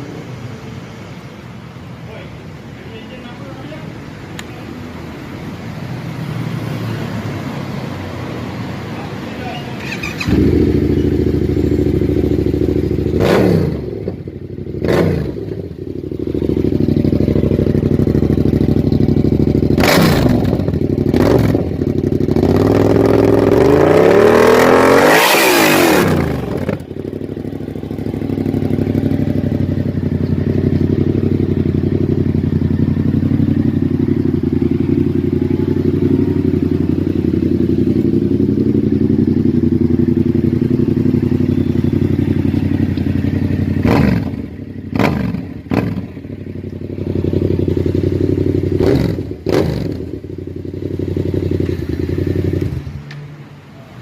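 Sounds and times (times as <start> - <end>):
motorcycle engine revving and idling: 0.0 - 54.0.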